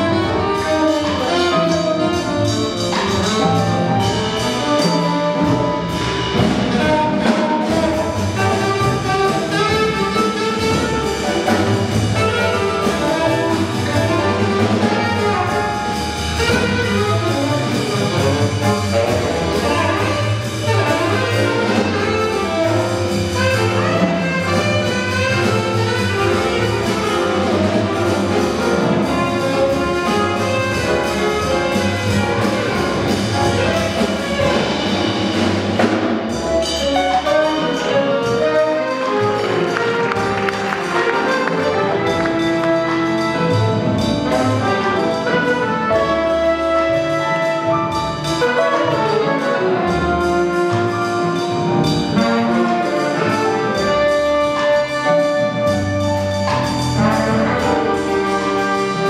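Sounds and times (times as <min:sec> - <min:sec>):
small jazz ensemble playing: 0:00.0 - 0:59.0.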